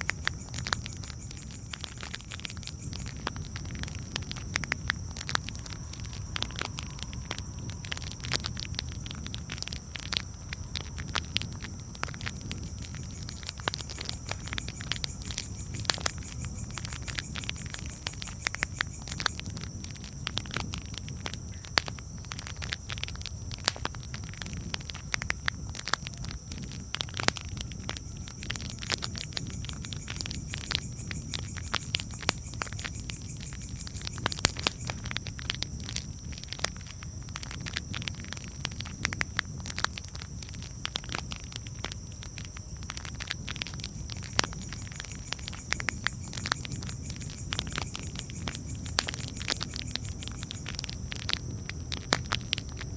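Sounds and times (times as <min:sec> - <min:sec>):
campfire crackling and popping: 0:00.0 - 0:52.9
low rumble of burning: 0:00.0 - 0:52.9.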